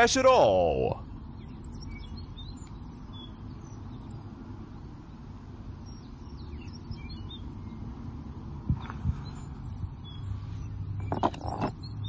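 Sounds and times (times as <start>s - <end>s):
low background rumble: 0.0s - 11.6s.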